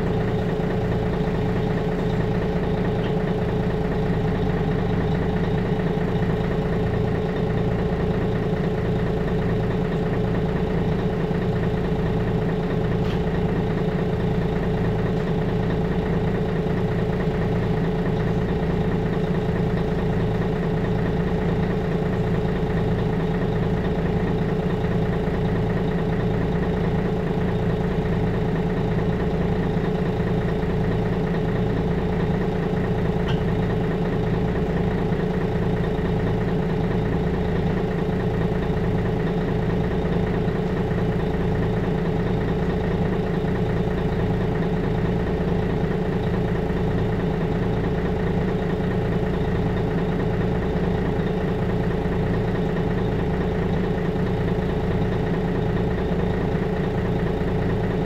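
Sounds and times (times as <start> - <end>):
bus diesel engine idling: 0.0 - 58.0.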